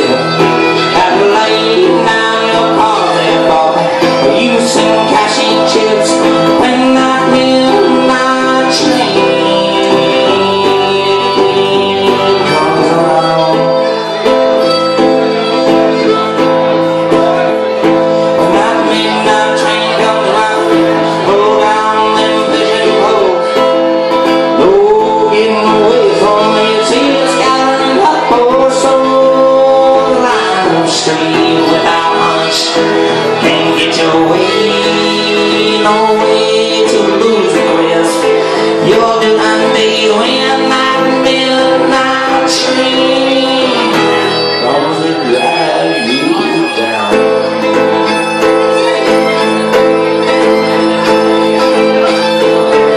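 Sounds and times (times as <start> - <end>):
fiddle playing: 0.0 - 52.9
man singing: 0.0 - 52.9
strummed electric guitar: 0.0 - 52.9.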